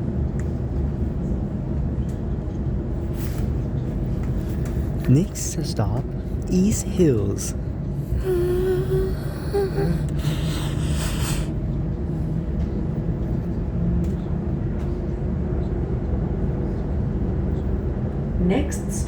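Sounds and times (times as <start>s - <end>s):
faint motor hum: 0.0s - 19.0s.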